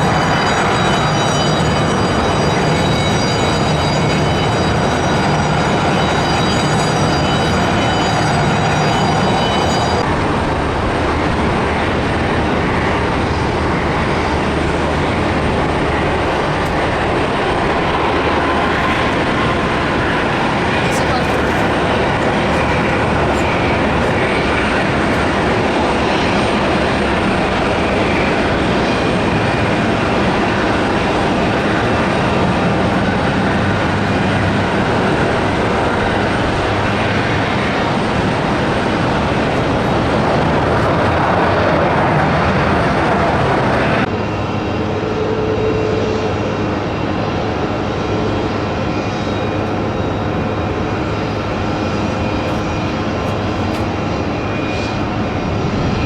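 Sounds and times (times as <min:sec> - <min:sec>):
jet engines landing: 0:00.0 - 0:56.0
steady jet engine: 0:00.0 - 0:56.0.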